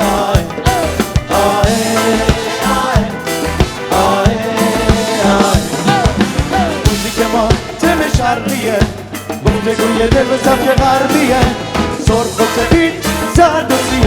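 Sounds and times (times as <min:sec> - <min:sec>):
live pop band music: 0:00.0 - 0:14.0
steady drum beat: 0:00.0 - 0:14.0.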